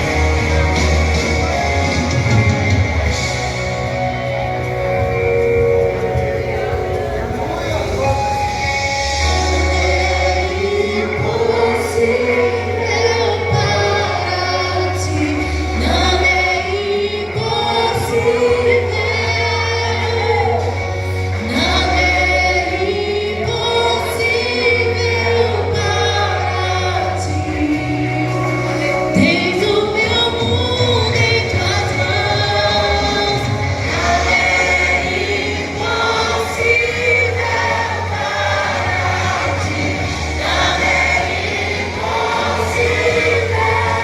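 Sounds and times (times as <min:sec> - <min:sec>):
vocal group singing in harmony: 0:00.0 - 0:44.0.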